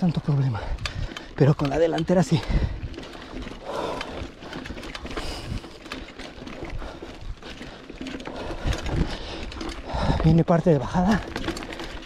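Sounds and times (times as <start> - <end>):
bike rattling: 0.0 - 12.0
bike tyres crunching on stones: 0.0 - 12.0.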